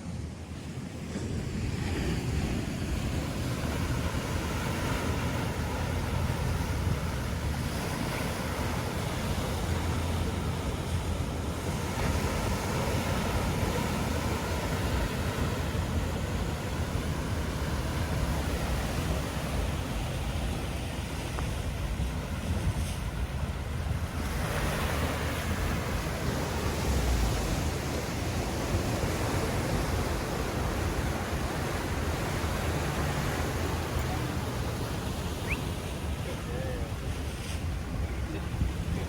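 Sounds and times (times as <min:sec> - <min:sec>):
ocean surf rushing: 0:00.0 - 0:39.0
wind buffeting microphone: 0:00.1 - 0:39.0.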